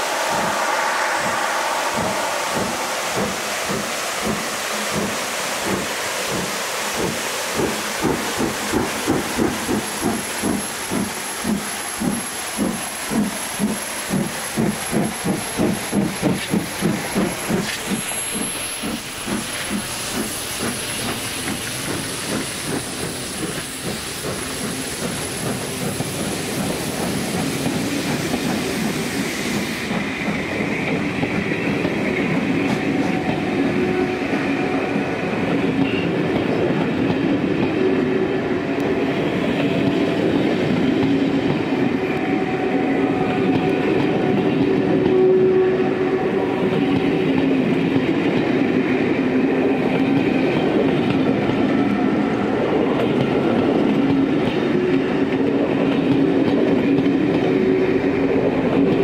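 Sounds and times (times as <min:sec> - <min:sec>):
steam locomotive exhaust beating: 0:00.0 - 0:59.0
train wheels rumbling on rails: 0:00.0 - 0:59.0.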